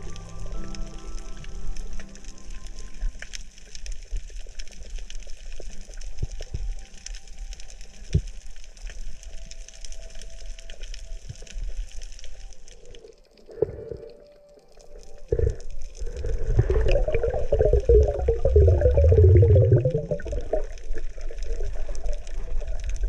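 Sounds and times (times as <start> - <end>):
crackle of tiny clicks underwater: 0.0 - 23.0
low rumble of moving water: 0.0 - 23.0.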